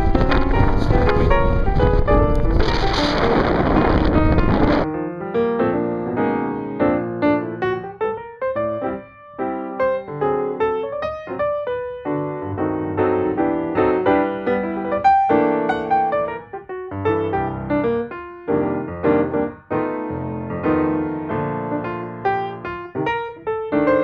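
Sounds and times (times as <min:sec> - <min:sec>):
piano melody over chords: 0:00.0 - 0:24.0.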